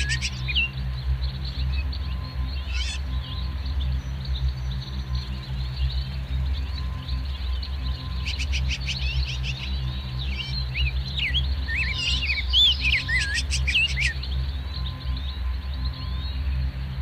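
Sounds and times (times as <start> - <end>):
songbirds chirping: 0.0 - 17.0
steady low drone: 0.0 - 17.0.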